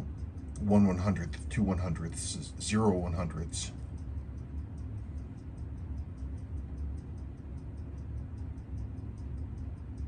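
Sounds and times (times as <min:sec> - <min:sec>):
light even ticking: 0:00.0 - 0:10.0
low hum: 0:00.0 - 0:10.0.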